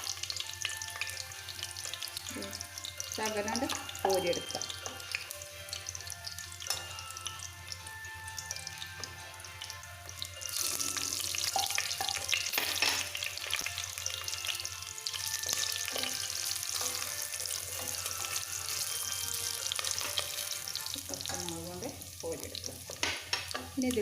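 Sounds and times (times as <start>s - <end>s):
shallots sizzling in oil: 0.0s - 24.0s.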